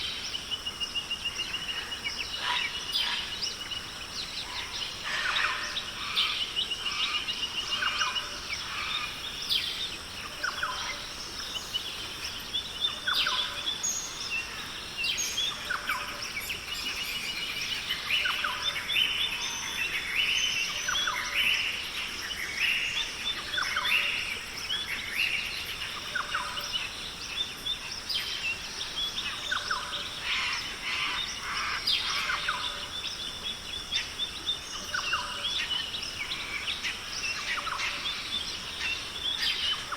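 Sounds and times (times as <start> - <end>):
insects hissing: 0.0 - 39.9.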